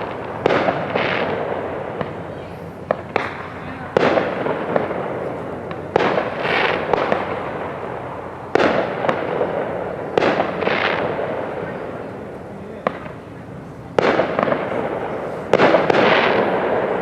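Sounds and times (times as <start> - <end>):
firework pops: 0.0 - 7.8, 8.5 - 12.0, 12.8 - 13.3, 13.9 - 16.8
fireworks bangs and crackling: 0.0 - 17.0.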